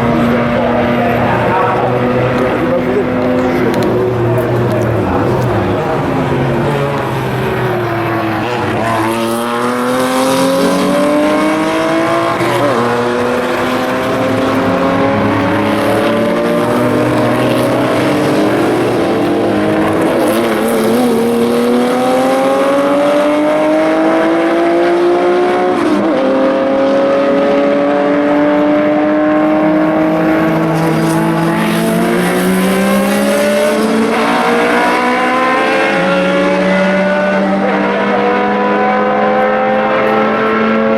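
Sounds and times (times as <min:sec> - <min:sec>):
racing car engines accelerating: 0:00.0 - 0:40.9.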